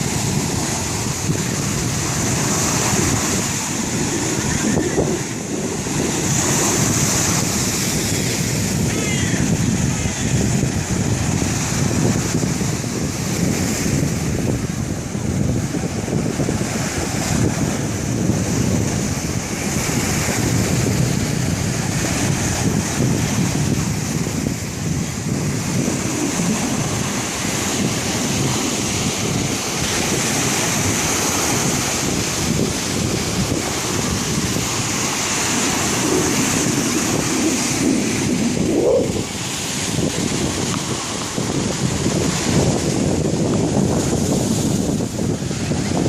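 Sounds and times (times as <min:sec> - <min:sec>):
high whistle of wind: 0:00.0 - 0:46.0
waves and surf churning: 0:00.0 - 0:46.0
wind buffeting microphone: 0:00.0 - 0:46.0.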